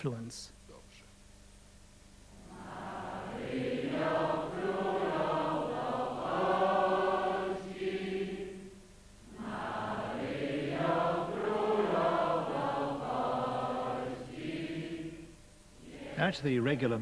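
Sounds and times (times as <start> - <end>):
congregation singing a hymn: 2.4 - 17.0.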